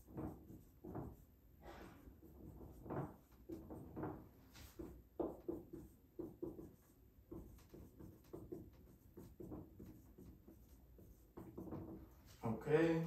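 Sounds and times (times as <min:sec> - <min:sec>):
marker squeaking on whiteboard: 0:00.0 - 0:01.3, 0:02.0 - 0:12.3.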